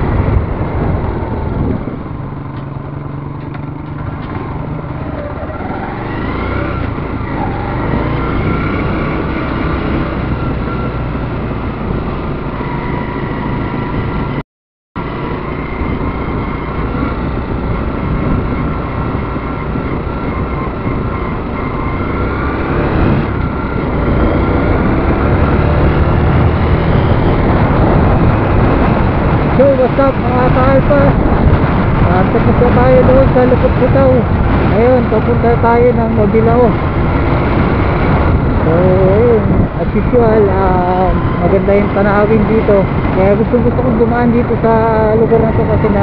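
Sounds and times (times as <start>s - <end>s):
motorcycle engine running: 0.0s - 14.4s, 15.0s - 46.0s.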